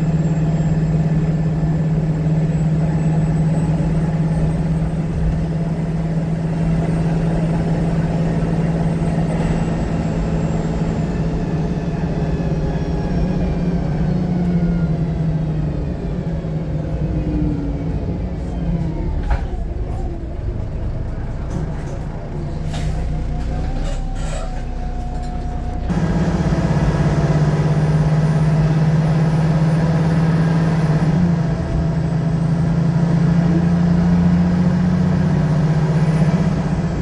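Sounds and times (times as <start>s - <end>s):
bus diesel engine droning: 0.0s - 37.0s.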